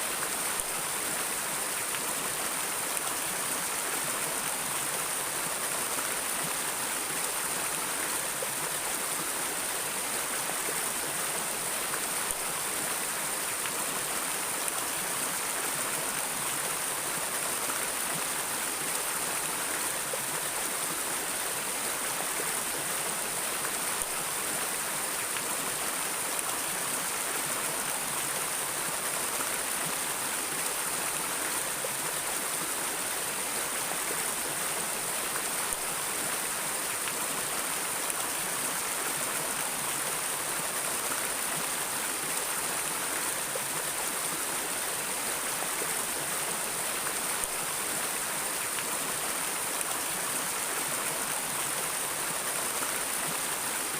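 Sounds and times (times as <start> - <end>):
flowing river water: 0.0 - 53.9.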